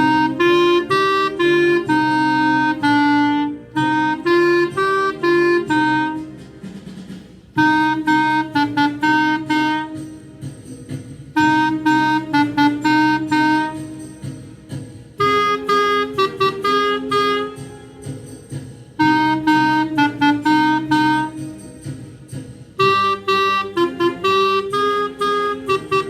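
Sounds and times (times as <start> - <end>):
band playing low chords: 0.0 - 6.7, 7.6 - 10.6, 11.2 - 18.3, 19.0 - 22.2, 22.8 - 26.0
clarinet blues melody: 0.0 - 6.8, 7.6 - 10.6, 11.3 - 14.6, 15.2 - 22.2, 22.8 - 26.0.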